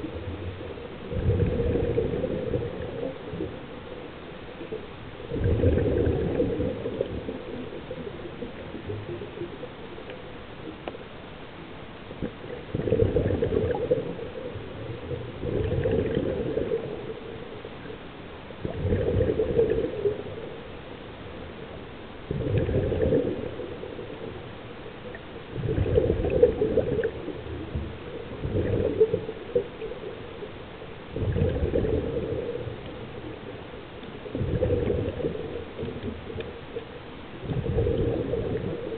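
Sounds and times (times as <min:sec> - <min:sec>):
exhaled bubbles gurgling: 0:00.0 - 0:11.0, 0:11.6 - 0:38.9.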